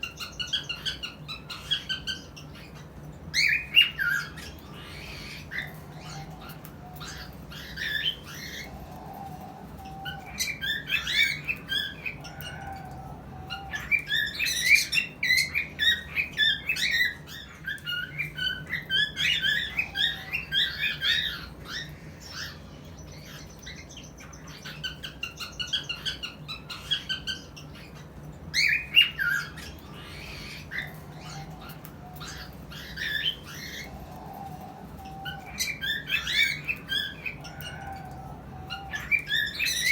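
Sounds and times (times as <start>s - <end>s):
cockatiels chirping and squawking: 0.0s - 39.9s.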